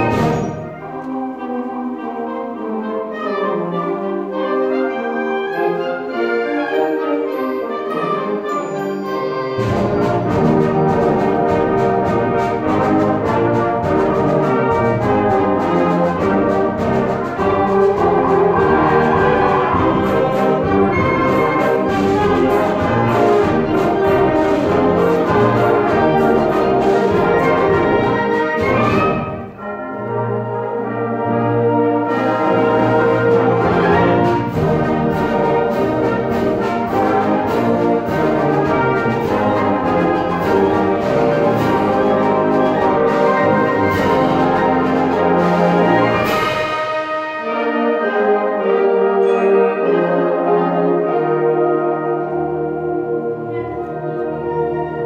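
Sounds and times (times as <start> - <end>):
symphonic band playing: 0.0 - 55.0.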